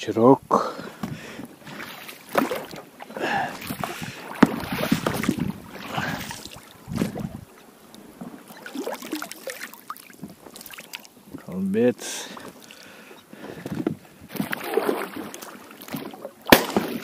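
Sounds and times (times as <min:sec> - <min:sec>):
knocks and rustles in inflatable boat: 0:01.0 - 0:11.7, 0:13.4 - 0:17.0
water splashes: 0:01.2 - 0:13.1, 0:14.3 - 0:17.0.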